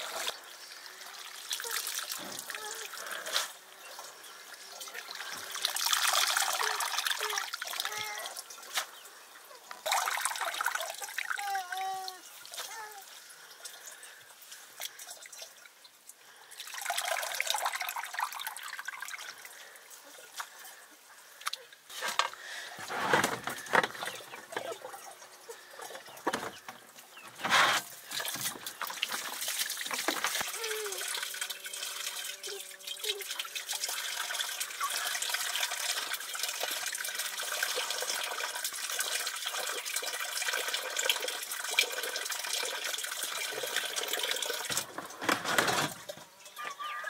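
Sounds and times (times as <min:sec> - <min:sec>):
water pouring and splashing: 0:00.0 - 0:47.0.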